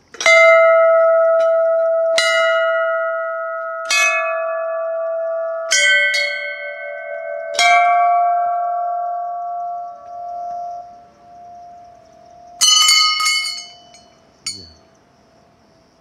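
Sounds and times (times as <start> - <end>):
brass bells ringing: 0.3 - 14.8.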